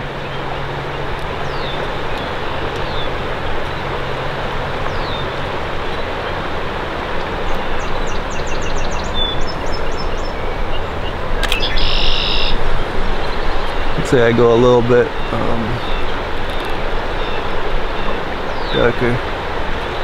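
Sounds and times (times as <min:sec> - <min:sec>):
birds chirping: 0:00.0 - 0:20.0
river rushing: 0:00.0 - 0:20.0.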